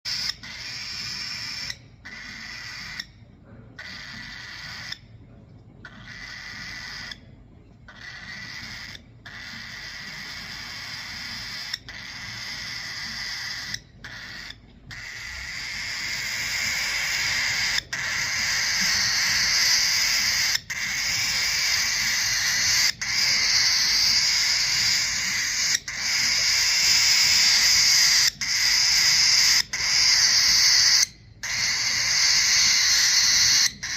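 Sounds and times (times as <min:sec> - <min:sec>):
baby bird raspy begging calls: 0:00.1 - 0:03.1, 0:03.8 - 0:05.1, 0:05.8 - 0:07.2, 0:07.9 - 0:33.9.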